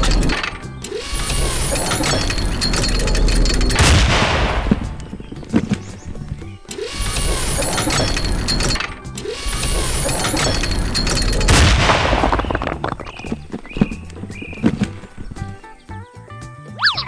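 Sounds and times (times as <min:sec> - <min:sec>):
loud crash of shattering rock: 0:00.0 - 0:05.9, 0:06.9 - 0:15.4
rubble falling: 0:00.0 - 0:16.0
background music: 0:00.0 - 0:17.0.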